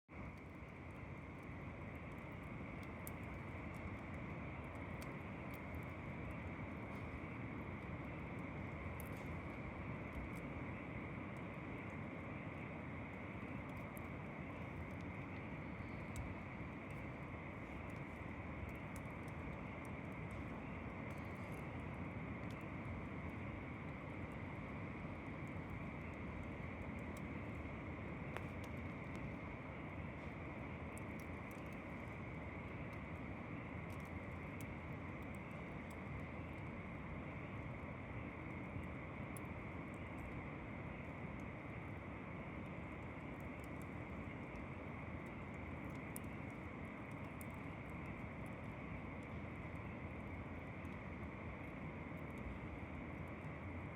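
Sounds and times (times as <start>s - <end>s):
campfire crackles: 0.1s - 53.9s.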